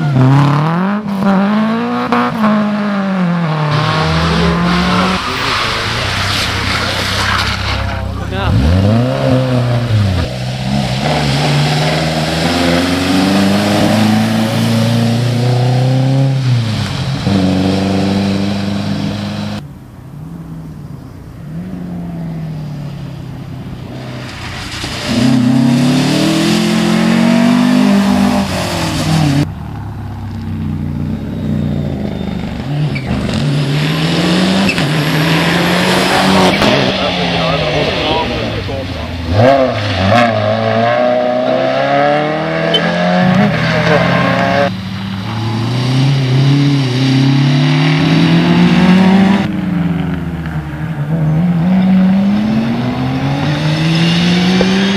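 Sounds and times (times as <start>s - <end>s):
rally car engines revving past: 0.0s - 19.6s, 20.9s - 54.9s.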